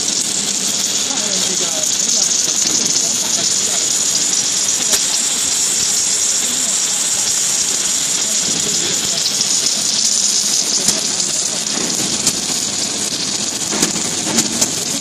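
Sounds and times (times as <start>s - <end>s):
welding hiss with crackling: 0.0s - 15.0s.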